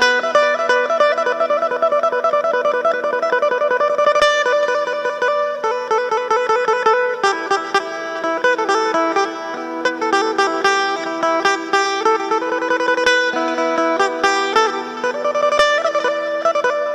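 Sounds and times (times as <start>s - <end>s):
plucked lute melody: 0.0s - 16.9s.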